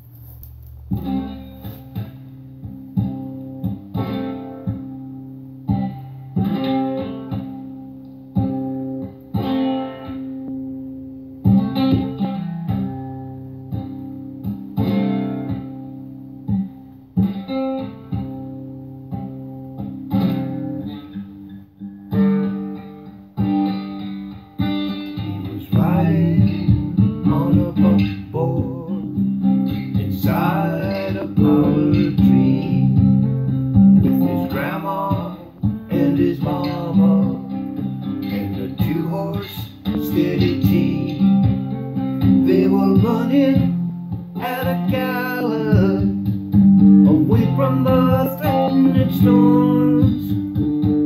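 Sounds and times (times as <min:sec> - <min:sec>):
guitar chords strummed: 0:00.0 - 0:51.0.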